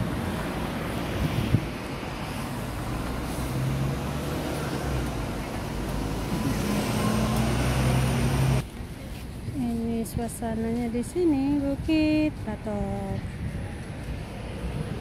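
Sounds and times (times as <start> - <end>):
road traffic noise: 0.0 - 15.0
vehicle engine humming: 0.0 - 15.0.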